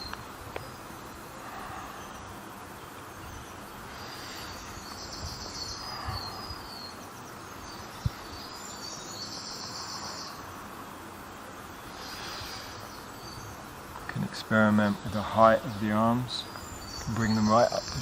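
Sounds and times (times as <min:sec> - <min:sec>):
faint outdoor background noise: 0:00.0 - 0:18.0
insects trilling: 0:00.0 - 0:18.0.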